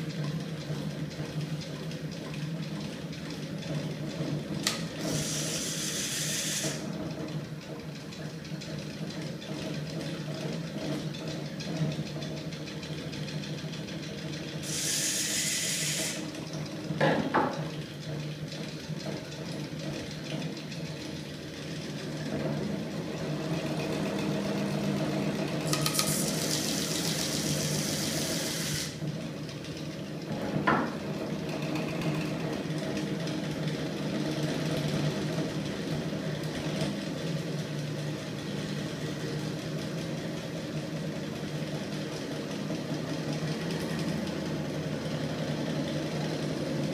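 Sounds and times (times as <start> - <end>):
engine rig mechanical hum: 0.0 - 46.9.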